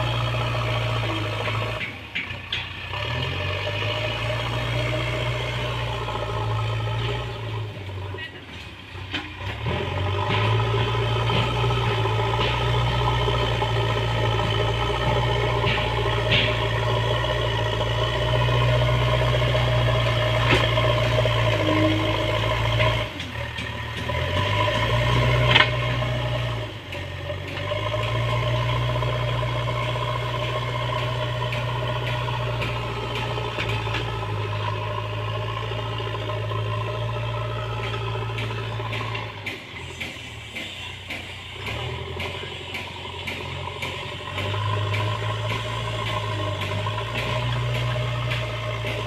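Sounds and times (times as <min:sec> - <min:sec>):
diesel engine running under work: 0:00.0 - 0:49.0.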